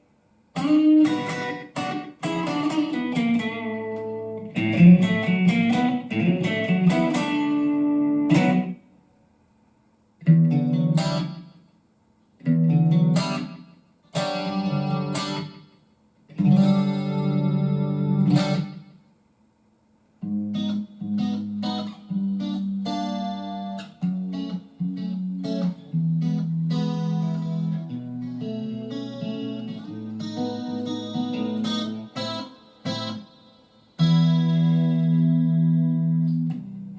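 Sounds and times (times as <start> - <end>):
electric guitar strumming: 0.6 - 8.8, 10.2 - 11.6, 12.4 - 19.0, 20.2 - 36.9.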